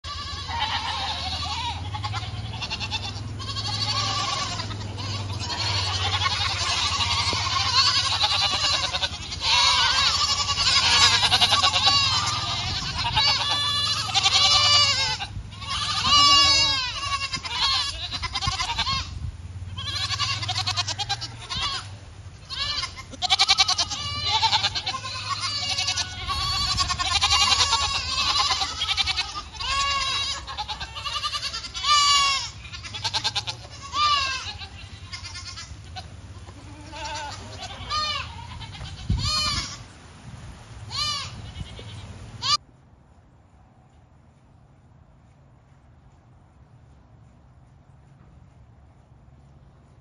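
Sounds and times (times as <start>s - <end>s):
goats bleating: 0.0s - 39.9s, 40.9s - 42.6s.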